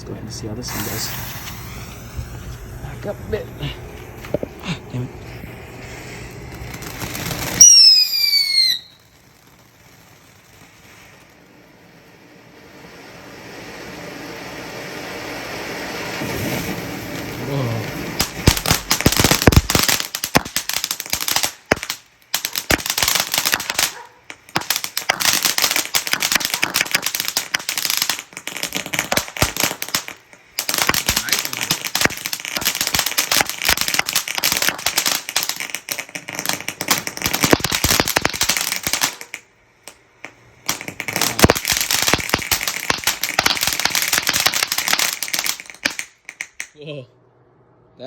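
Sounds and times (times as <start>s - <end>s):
firework pops and crackles: 0.0s - 46.9s.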